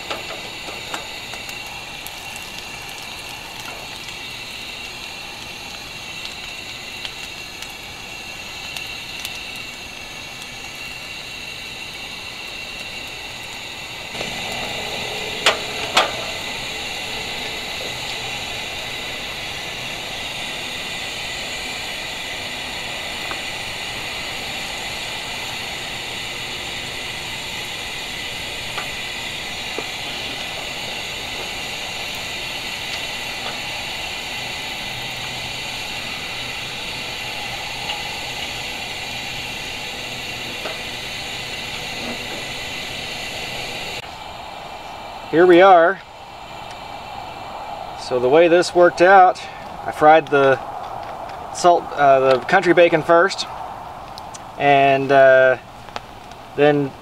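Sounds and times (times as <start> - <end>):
bacon sizzling in a pan: 0.0 - 57.0.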